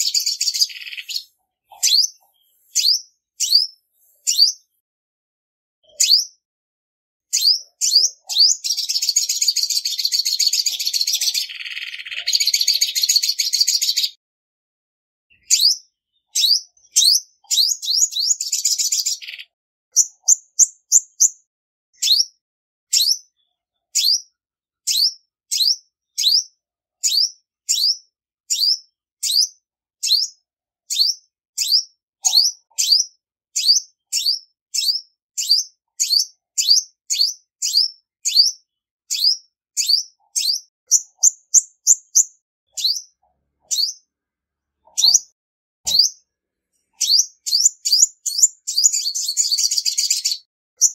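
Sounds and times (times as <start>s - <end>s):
bird high sharp chirps: 0.0s - 4.8s, 5.8s - 6.4s, 7.3s - 14.2s, 15.3s - 21.4s, 22.0s - 23.4s, 24.0s - 24.3s, 24.9s - 44.1s, 44.8s - 46.2s, 46.9s - 50.9s.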